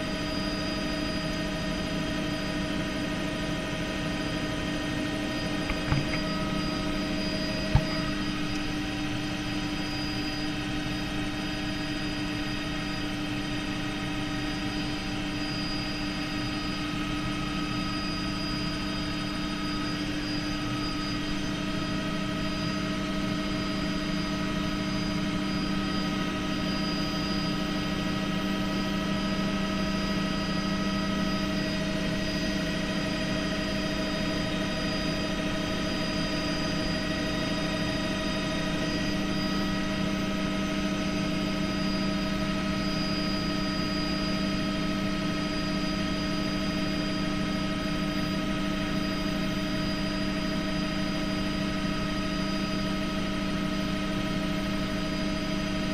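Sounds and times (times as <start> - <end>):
constant whining tones: 0.0 - 55.8
helicopter cabin drone: 0.0 - 55.9.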